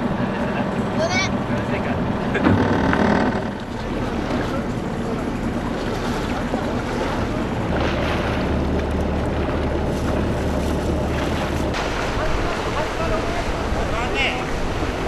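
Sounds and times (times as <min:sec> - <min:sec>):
boat engine hum: 0:00.0 - 0:15.0
lake water washing: 0:00.0 - 0:15.0
wind buffeting microphone: 0:00.0 - 0:15.0.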